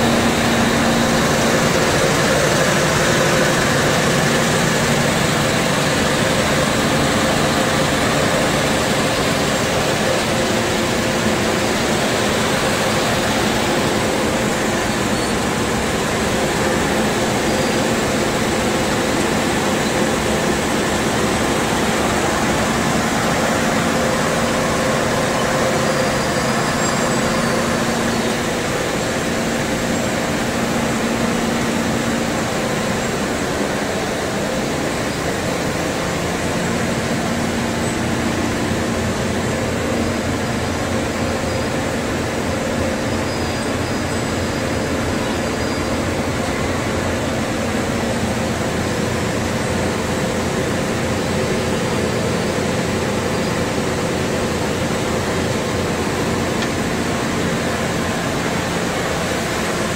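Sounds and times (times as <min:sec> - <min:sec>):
machinery motors and fans droning: 0:00.0 - 0:59.9.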